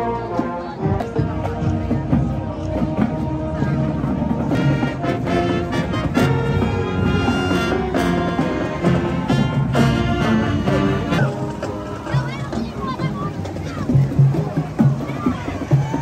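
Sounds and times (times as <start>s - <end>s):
brass and saxophones playing: 0.0s - 13.2s
steady drum beat: 0.0s - 16.0s.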